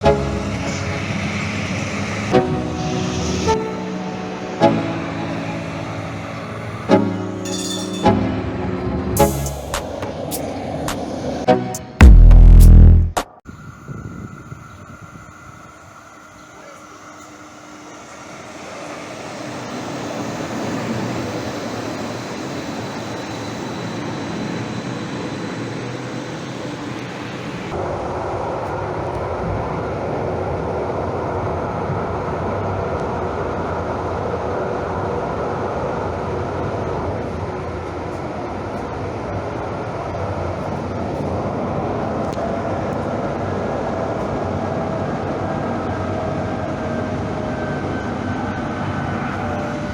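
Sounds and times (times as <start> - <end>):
train rumbling on rails: 0.0 - 11.5, 13.5 - 49.9.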